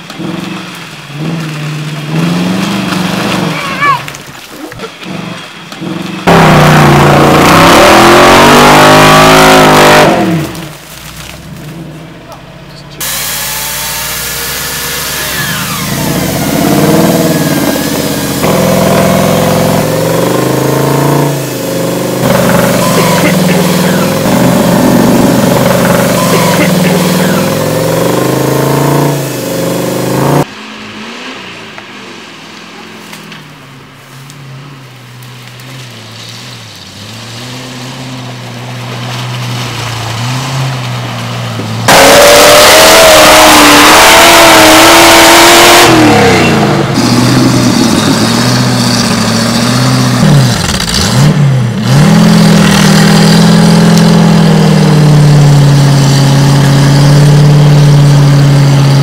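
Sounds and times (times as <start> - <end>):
off-road truck engines revving: 0.0 - 59.0.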